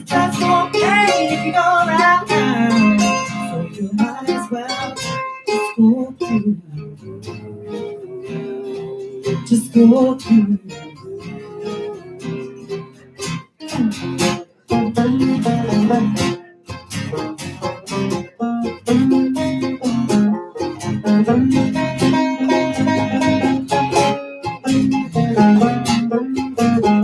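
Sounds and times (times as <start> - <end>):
acoustic guitar: 0.0 - 27.0
banjo: 0.0 - 27.0
mandolin: 0.0 - 27.0.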